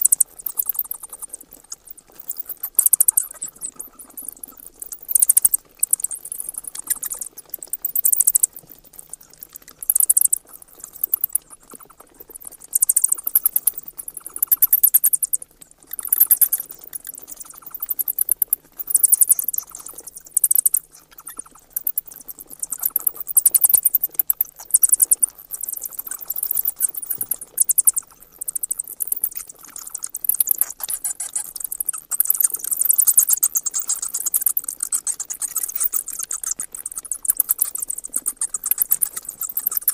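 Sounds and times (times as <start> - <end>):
bats clicking chatter: 0.0 - 39.9.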